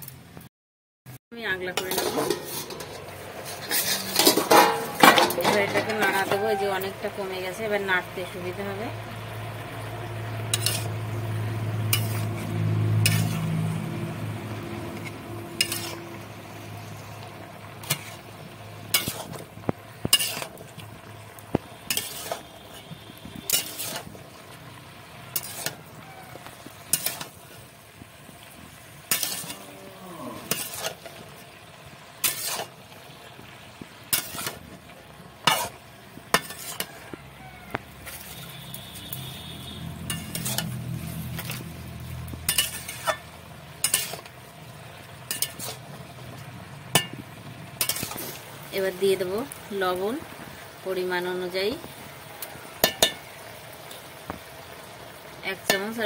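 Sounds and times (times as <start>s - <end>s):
faint sizzle: 1.4s - 56.0s
metal spatula scraping a pan: 1.7s - 34.8s, 35.4s - 50.1s, 52.4s - 53.3s.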